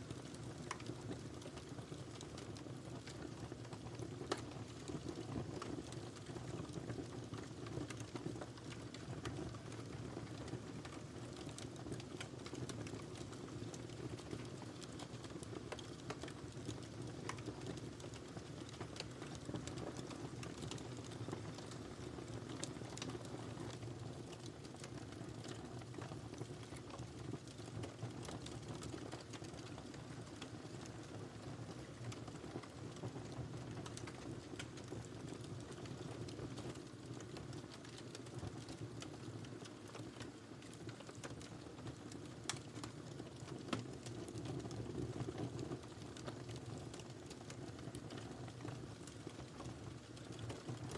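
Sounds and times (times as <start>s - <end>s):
firewood crackling and popping: 0.0s - 50.9s
rumble of fire flames: 0.0s - 50.9s.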